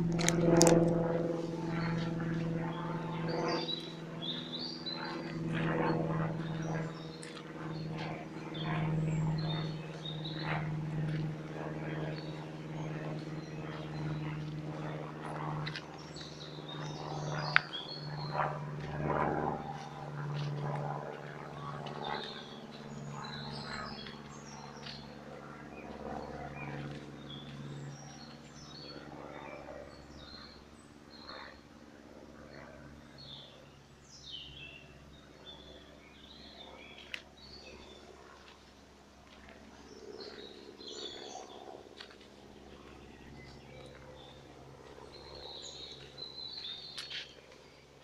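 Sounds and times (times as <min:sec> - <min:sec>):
footsteps on dirt path: 0:00.0 - 0:28.7, 0:36.9 - 0:47.7
steady low hum: 0:00.0 - 0:48.0
small birds chirping: 0:01.7 - 0:31.6, 0:32.5 - 0:48.0.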